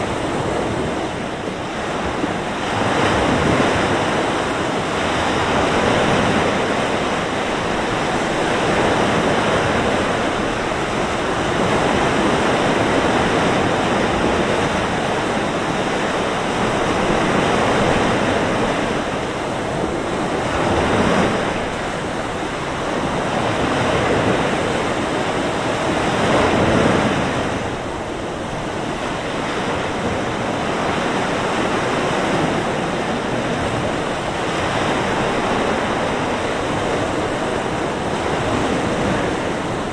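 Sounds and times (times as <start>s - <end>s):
surf breaking on beach: 0.0s - 39.9s
wind: 0.0s - 39.9s.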